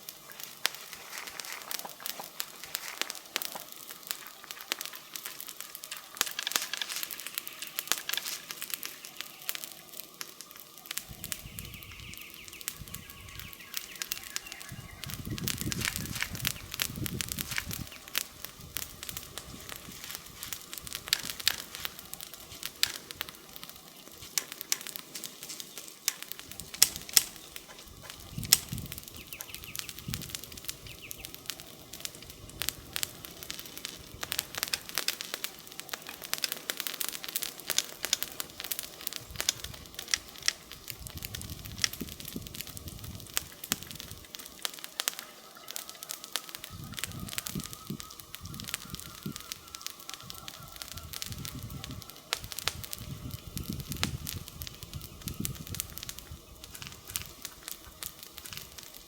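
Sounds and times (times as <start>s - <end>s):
soft steady fire hiss: 0.0s - 59.0s
wood fire crackling and snapping: 0.0s - 59.0s.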